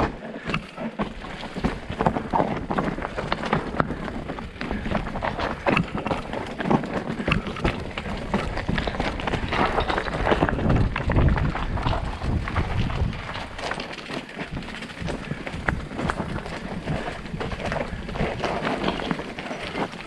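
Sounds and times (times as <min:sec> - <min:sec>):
footsteps on rocky trail: 0:00.0 - 0:20.0
wind buffeting microphone: 0:01.6 - 0:13.8, 0:14.4 - 0:19.4.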